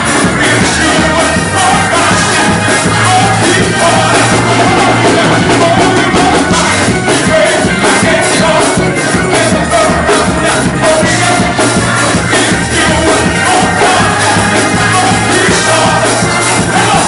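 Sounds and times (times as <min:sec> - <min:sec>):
gospel choir singing: 0:00.0 - 0:17.0
lead singer singing: 0:00.0 - 0:17.0
up-tempo beat: 0:00.0 - 0:17.0.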